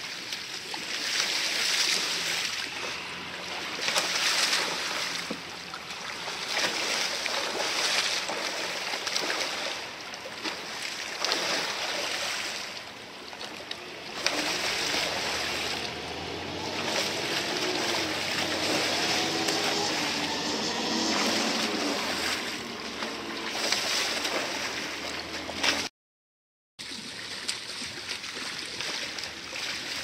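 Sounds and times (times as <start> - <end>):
kayak and paddle splashes: 0.0 - 25.9, 26.8 - 30.0
rushing river current: 0.0 - 25.9.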